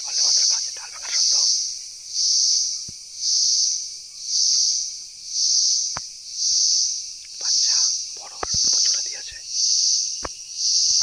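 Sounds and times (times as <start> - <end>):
insects pulsing chorus: 0.0 - 11.0.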